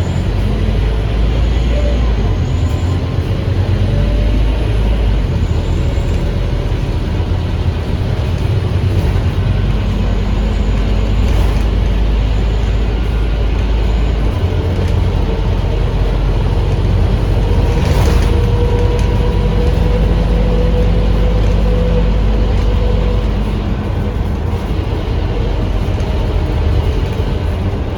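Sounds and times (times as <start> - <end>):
bus diesel engine running: 0.0 - 27.9
road and cabin noise: 0.0 - 27.9.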